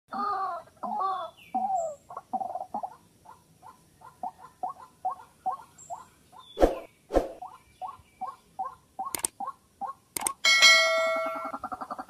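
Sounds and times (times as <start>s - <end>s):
waterhen calling: 0.1s - 10.1s, 11.2s - 12.0s.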